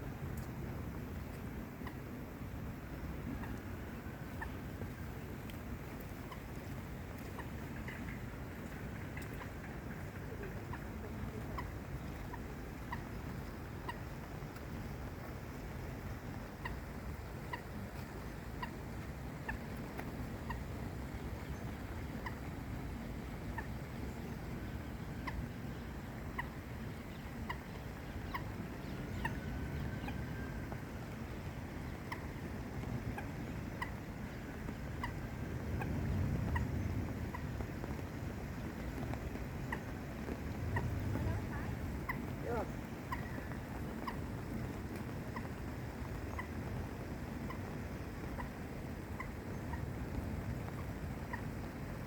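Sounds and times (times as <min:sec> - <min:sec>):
low rushing background noise: 0:00.0 - 0:52.0.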